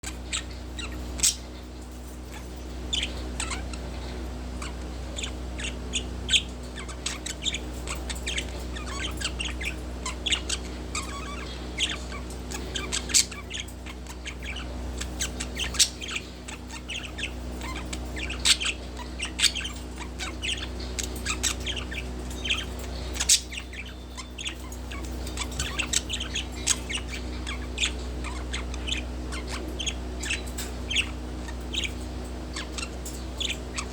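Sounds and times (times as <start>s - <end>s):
low steady hum: 0.0s - 33.9s
budgerigar chirping: 4.6s - 33.9s.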